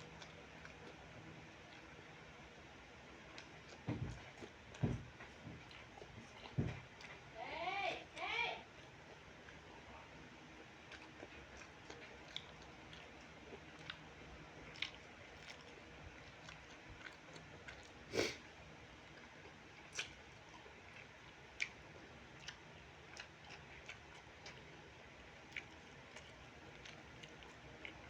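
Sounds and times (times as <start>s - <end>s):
chewing and mouth sounds: 0.0s - 7.3s, 8.7s - 28.0s.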